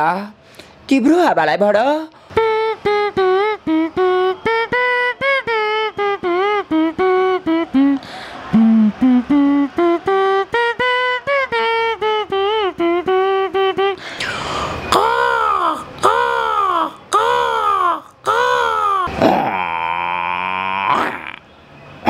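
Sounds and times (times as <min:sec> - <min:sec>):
man mimicking a tune: 0:02.4 - 0:21.5.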